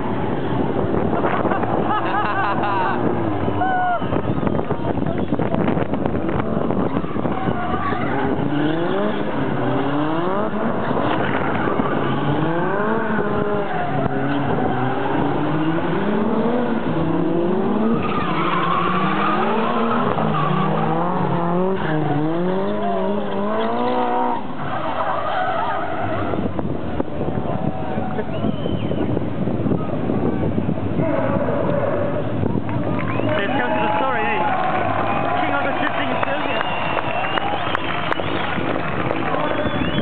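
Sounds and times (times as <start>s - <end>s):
car engines revving hard: 0.0s - 40.0s
tyres skidding: 0.0s - 40.0s.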